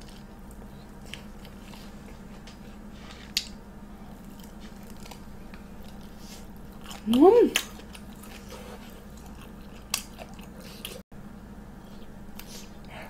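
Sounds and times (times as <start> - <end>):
chewing and biting food: 0.0 - 11.0
low steady hum: 0.0 - 13.0.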